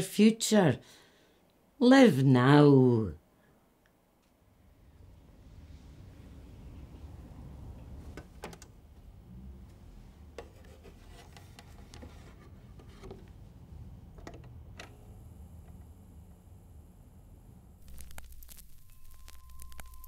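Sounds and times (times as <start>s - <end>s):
record surface hiss: 0.0s - 20.0s
low steady hum: 0.9s - 20.0s.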